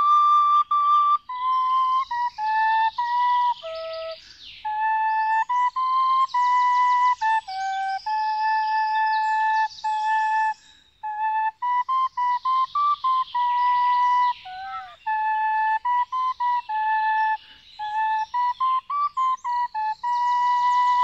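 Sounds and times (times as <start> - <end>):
slow flute melody: 0.0 - 21.0
birdsong chirping: 0.1 - 21.0.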